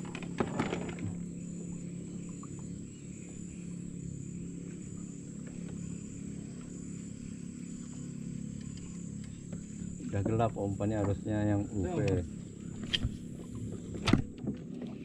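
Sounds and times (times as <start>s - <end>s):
faint insect trill: 0.0s - 14.0s
small boat engine running: 0.0s - 15.0s.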